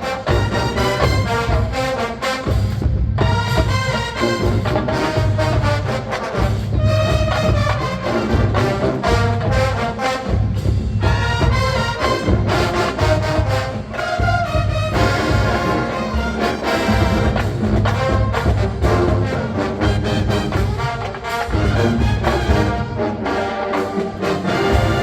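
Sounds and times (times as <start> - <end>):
heavy drums: 0.0 - 23.2, 23.8 - 25.0
brass melody: 0.0 - 25.0
low brass: 0.0 - 25.0.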